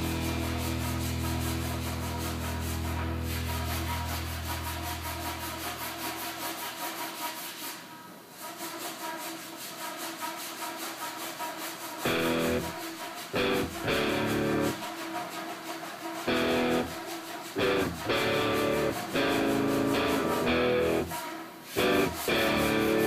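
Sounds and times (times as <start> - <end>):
music: 0.0 - 6.8, 8.4 - 15.6, 16.2 - 23.0
sandpaper rubbing strokes: 0.0 - 23.0.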